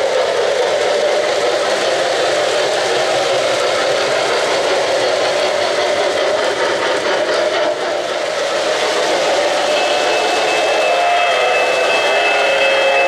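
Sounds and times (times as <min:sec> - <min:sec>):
model train wheels rolling: 0:00.0 - 0:13.0.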